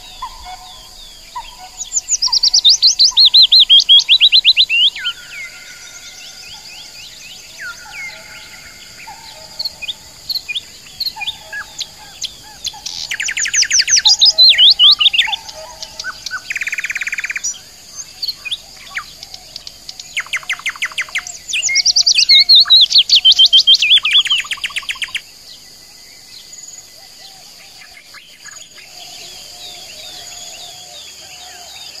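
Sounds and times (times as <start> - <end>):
songbirds chirping and singing: 0.0 - 32.0
sweeping whistled bird notes: 0.0 - 32.0.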